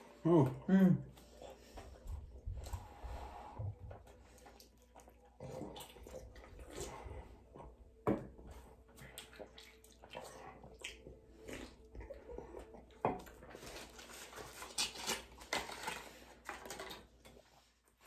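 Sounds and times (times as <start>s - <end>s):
chewing: 1.2s - 7.8s, 8.6s - 17.6s.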